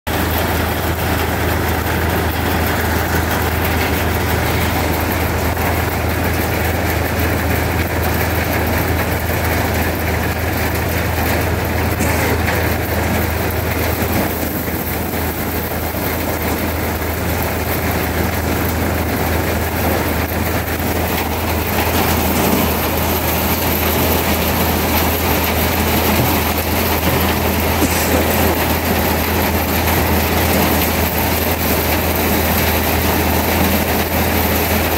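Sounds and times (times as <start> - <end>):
workshop machinery whirring: 0.1 - 33.8.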